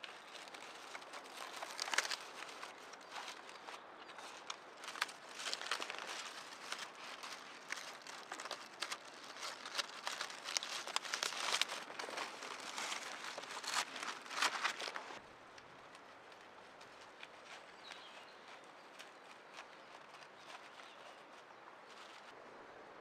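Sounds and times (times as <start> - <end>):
dry reeds rustling and crackling: 0.0 - 22.4.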